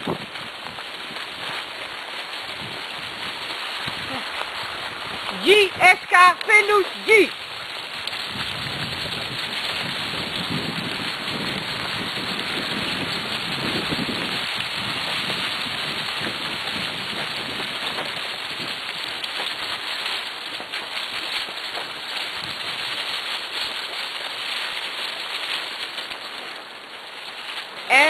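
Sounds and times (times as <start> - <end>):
cart wheels rolling over leaves: 0.0 - 28.0.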